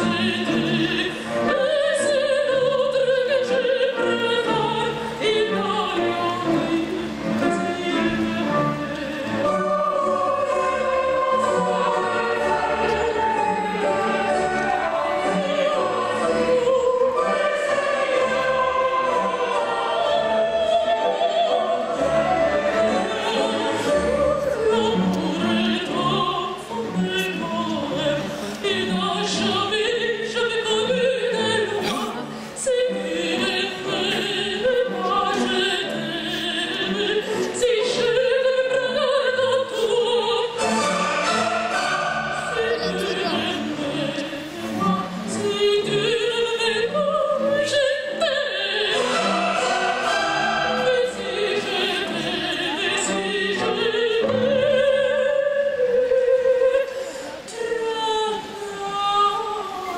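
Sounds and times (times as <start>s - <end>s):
orchestra playing: 0.0s - 57.6s
chorus singing: 0.0s - 59.9s
operatic singing with vibrato: 0.0s - 59.9s.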